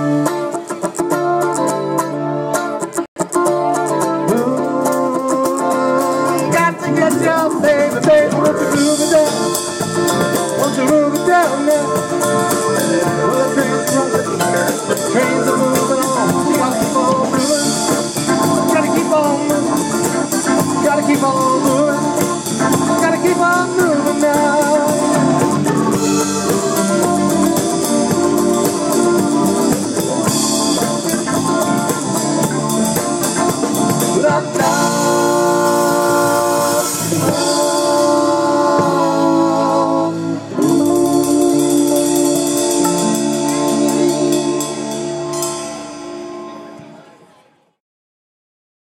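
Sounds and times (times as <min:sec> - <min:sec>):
rock band playing: 0:00.0 - 0:47.0
lead guitar bending notes: 0:00.0 - 0:47.1.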